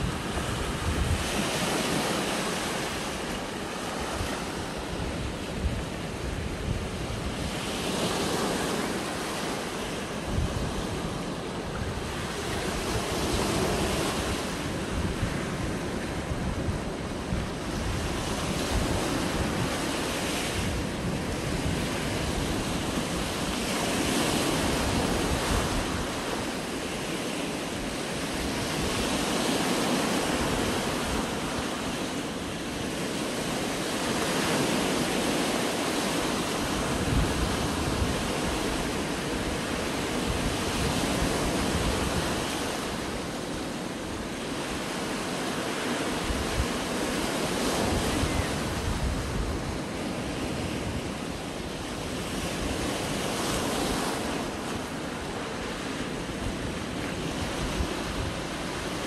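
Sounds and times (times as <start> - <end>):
waves breaking on shore: 0.0 - 59.0
wind rumble on microphone: 0.0 - 59.0.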